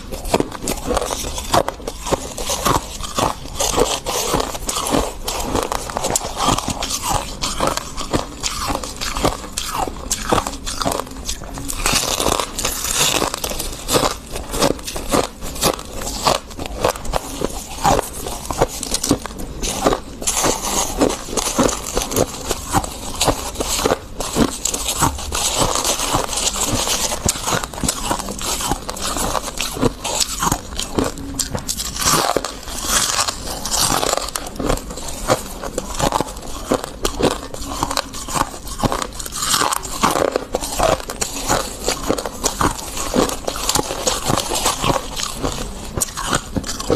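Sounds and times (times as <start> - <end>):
frost being bitten and chewed: 0.0 - 46.9.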